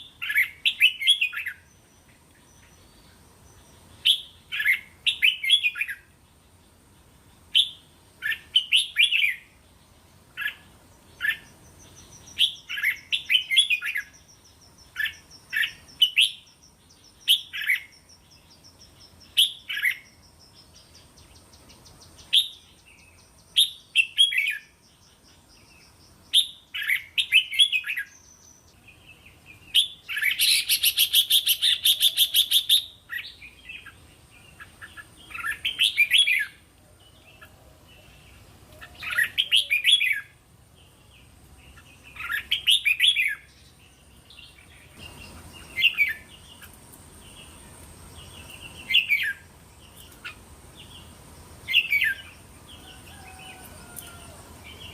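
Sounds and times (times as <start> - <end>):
bird singing song phrases: 0.0 - 54.9.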